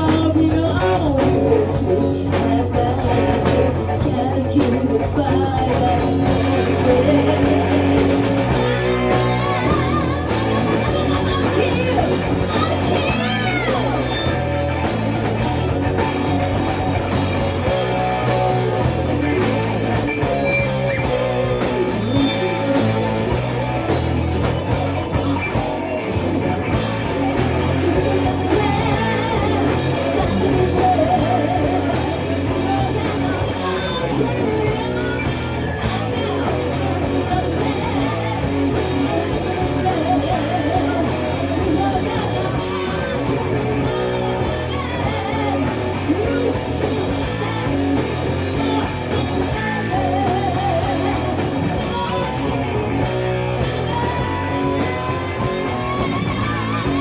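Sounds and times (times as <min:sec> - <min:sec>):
person singing: 0:00.0 - 0:25.6, 0:26.8 - 0:57.0
bass guitar: 0:00.0 - 0:57.0
distorted electric guitars: 0:00.0 - 0:57.0
drums: 0:00.0 - 0:57.0.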